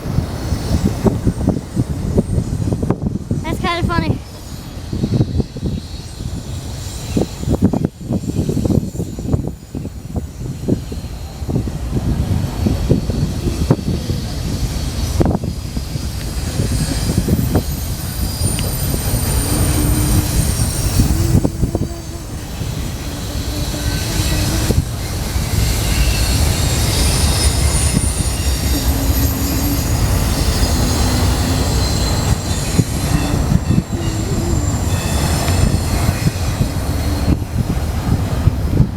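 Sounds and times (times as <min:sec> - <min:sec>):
freight train rumbling past: 0:00.0 - 0:38.9
high wheel squeal: 0:03.7 - 0:38.9.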